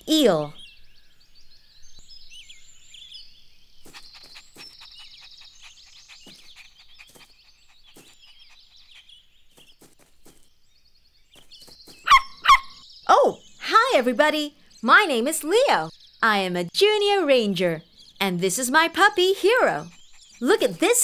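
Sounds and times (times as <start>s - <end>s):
birds chirping and trilling: 0.0s - 21.0s
faint garden ambience: 0.0s - 21.0s.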